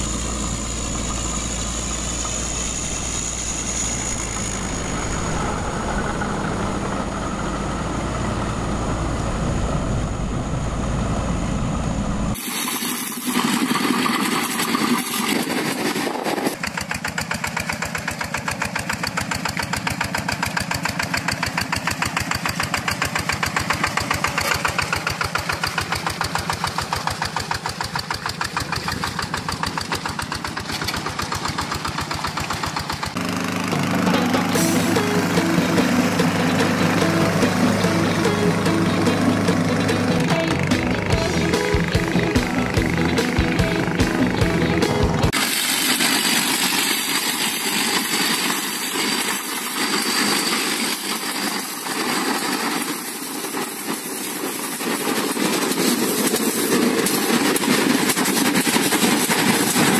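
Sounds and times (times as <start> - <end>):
harvester engine running: 0.0 - 59.9.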